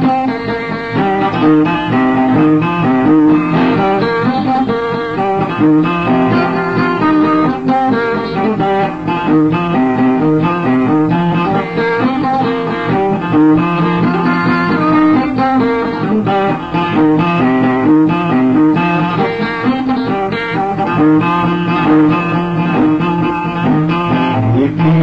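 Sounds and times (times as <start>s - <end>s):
guitar playing: 0.0s - 25.0s.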